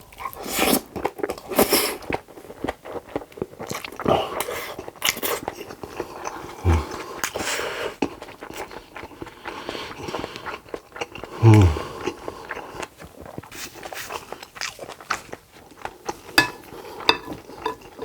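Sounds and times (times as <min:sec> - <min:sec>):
wet chewing: 0:00.0 - 0:18.0.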